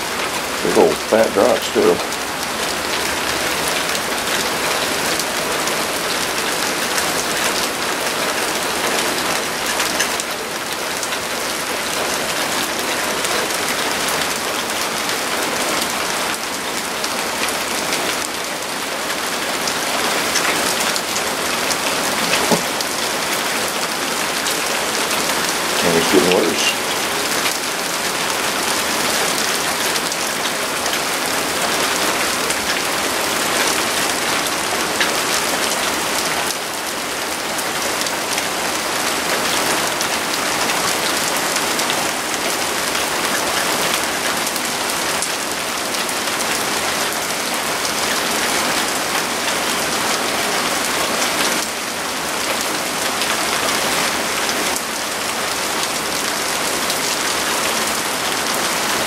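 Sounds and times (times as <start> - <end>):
heavy rain splashing: 0.0 - 59.0.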